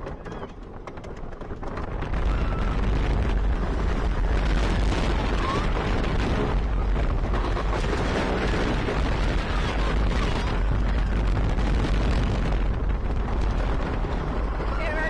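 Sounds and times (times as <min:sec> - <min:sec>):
roller coaster wheels rattling: 0:00.0 - 0:15.0
wind buffeting microphone: 0:00.0 - 0:15.0.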